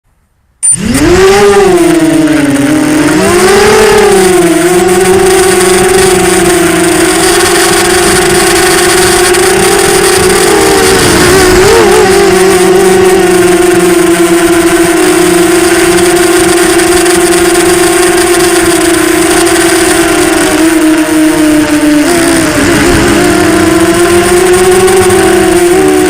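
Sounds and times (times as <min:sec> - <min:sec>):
quadcopter motors whining: 0:00.6 - 0:26.0.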